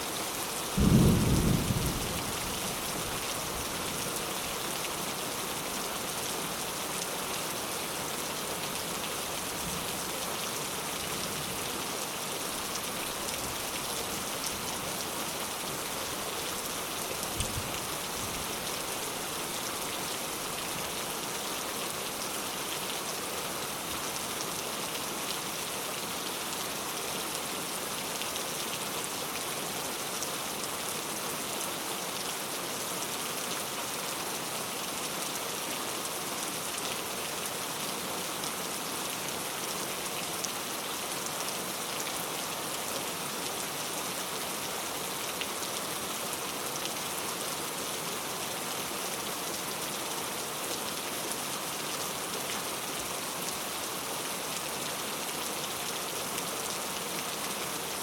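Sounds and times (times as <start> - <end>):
heavy rain falling: 0.1 - 32.4, 33.4 - 58.0.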